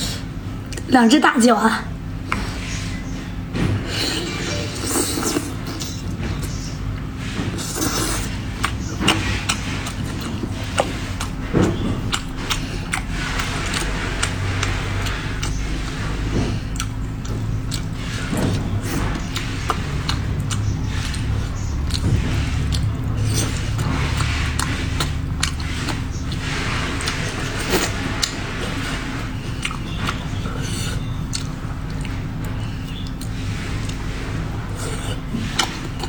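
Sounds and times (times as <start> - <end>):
steady low hum: 0.0 - 36.0
wet chewing and biting: 3.7 - 36.0.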